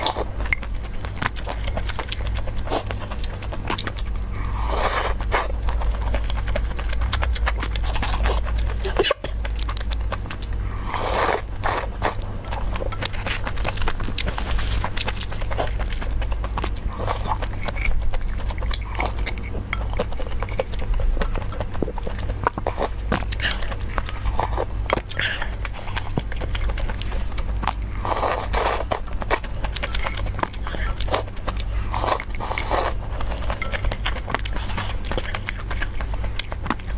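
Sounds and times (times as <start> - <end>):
chewing and slurping soup: 0.0 - 36.9
steady low hum: 0.0 - 36.9.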